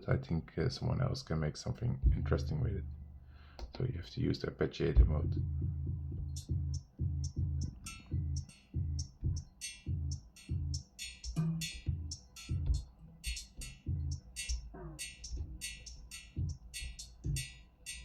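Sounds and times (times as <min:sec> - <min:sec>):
repeated low bass notes: 0:01.8 - 0:03.4, 0:04.8 - 0:18.0.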